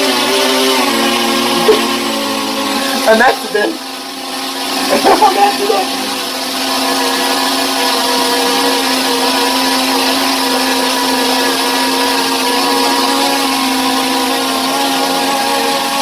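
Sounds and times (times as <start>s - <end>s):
drone motors and propellers whining: 0.0s - 16.0s.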